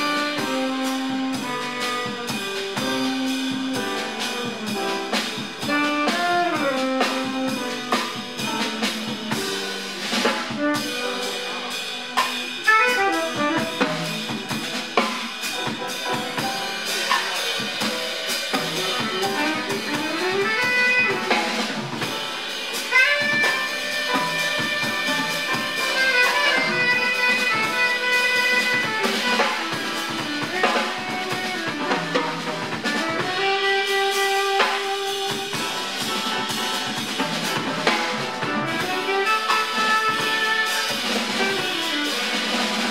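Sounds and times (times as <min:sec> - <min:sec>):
double bass: 0:00.0 - 0:15.0, 0:18.4 - 0:22.0, 0:23.0 - 0:40.6
tenor saxophone: 0:00.0 - 0:15.7, 0:18.5 - 0:42.9
busy drum kit: 0:00.0 - 0:42.9
piano: 0:00.0 - 0:42.9.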